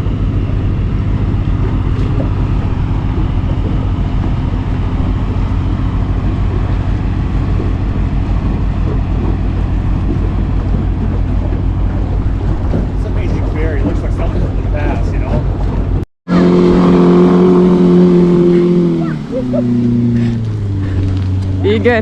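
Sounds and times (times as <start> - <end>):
motorboat engine droning: 0.0 - 22.0
water and air rush: 0.0 - 22.0.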